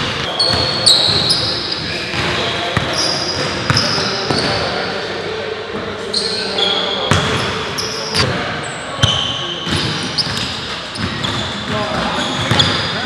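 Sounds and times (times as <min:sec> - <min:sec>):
sneaker squeaks: 0:00.0 - 0:04.8, 0:06.0 - 0:13.0
players' voices: 0:00.0 - 0:13.0.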